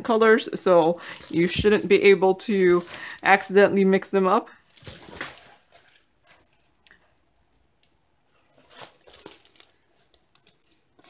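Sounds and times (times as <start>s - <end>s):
plastic film crinkling: 1.0s - 11.0s.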